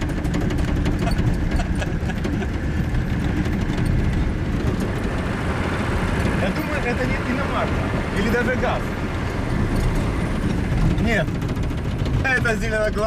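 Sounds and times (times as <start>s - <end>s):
off-road vehicle engine running: 0.0s - 13.0s
wheels knocking over sleepers: 0.0s - 13.0s.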